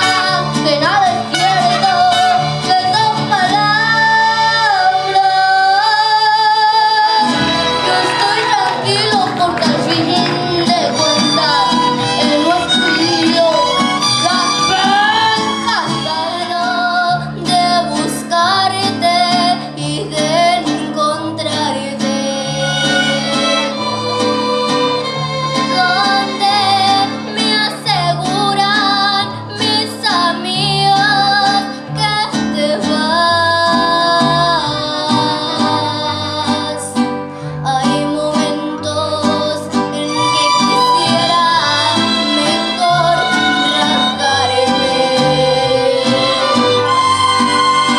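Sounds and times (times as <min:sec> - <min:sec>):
mariachi band playing: 0:00.0 - 0:47.9.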